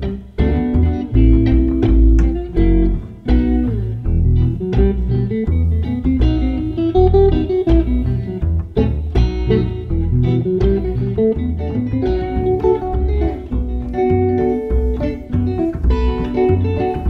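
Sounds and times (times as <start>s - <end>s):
deep bass line: 0.0s - 17.0s
electric guitar picked notes: 0.0s - 17.0s.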